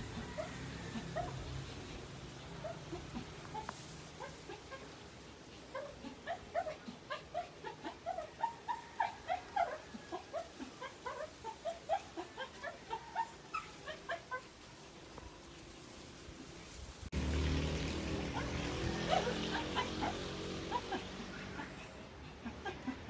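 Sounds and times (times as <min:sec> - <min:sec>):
dog whimpering and yelping: 0:00.0 - 0:14.6, 0:18.4 - 0:23.0.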